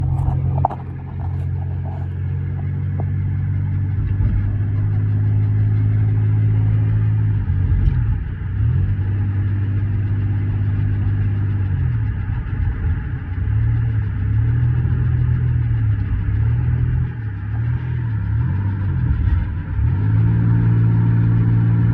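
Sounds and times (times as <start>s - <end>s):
car engine running: 0.0s - 21.9s.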